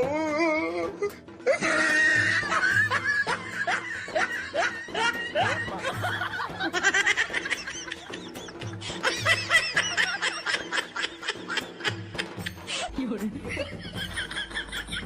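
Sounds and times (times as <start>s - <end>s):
people laughing: 1.5s - 15.0s.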